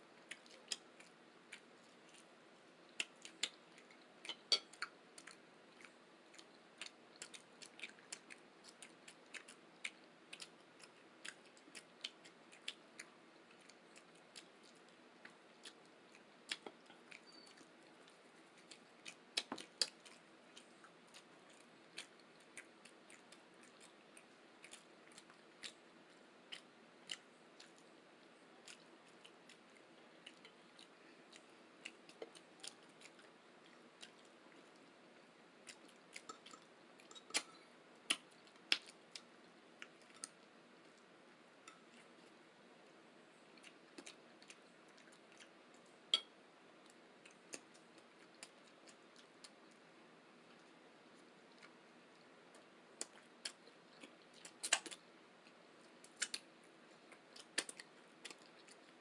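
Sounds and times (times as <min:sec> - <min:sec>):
mouth chewing clicks and smacks: 0:00.1 - 0:59.0.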